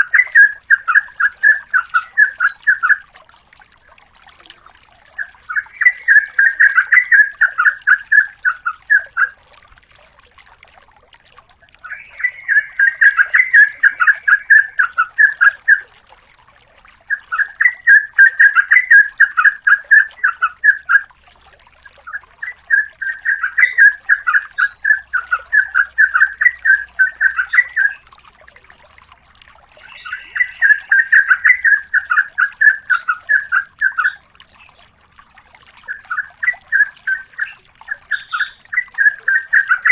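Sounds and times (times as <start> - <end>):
bulbul singing: 0.0 - 9.4, 10.7 - 16.0, 16.9 - 21.1, 21.7 - 28.2, 29.7 - 39.9.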